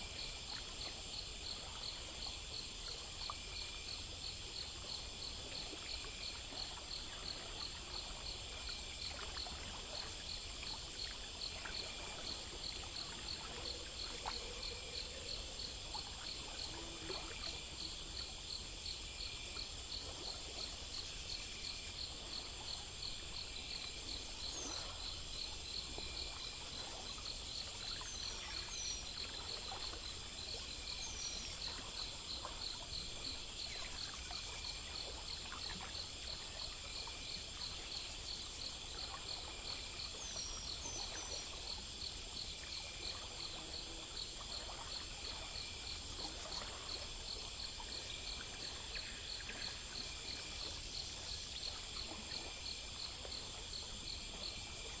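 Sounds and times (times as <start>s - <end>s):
crickets chirping: 0.0s - 55.0s
faint background hiss: 0.0s - 55.0s
steady high insect buzz: 0.0s - 55.0s.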